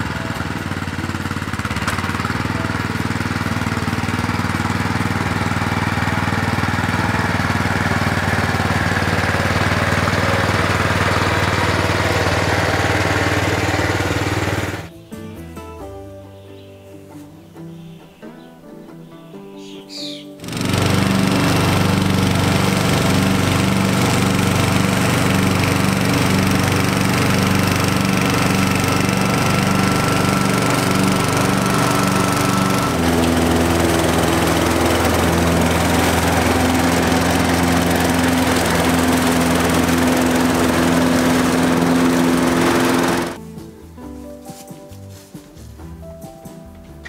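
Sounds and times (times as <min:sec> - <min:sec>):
ride-on lawn mower engine: 0:00.0 - 0:14.9, 0:18.9 - 0:43.7
walk-behind lawn mower running: 0:00.0 - 0:14.9, 0:19.6 - 0:43.6.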